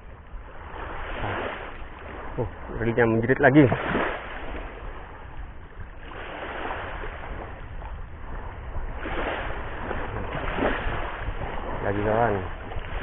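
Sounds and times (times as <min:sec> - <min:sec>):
surf rushing: 0:00.0 - 0:13.0
wind: 0:00.0 - 0:13.0.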